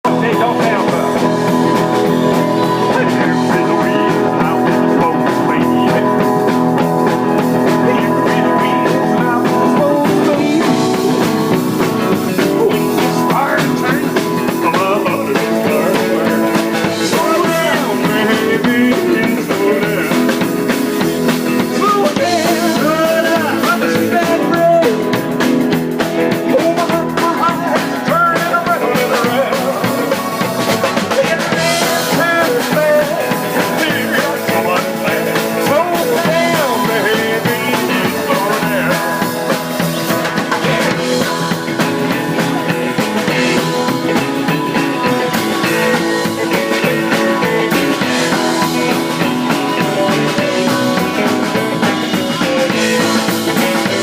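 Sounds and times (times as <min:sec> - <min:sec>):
electric guitar melody: 0:00.0 - 0:54.0
rock band playing: 0:00.0 - 0:54.0.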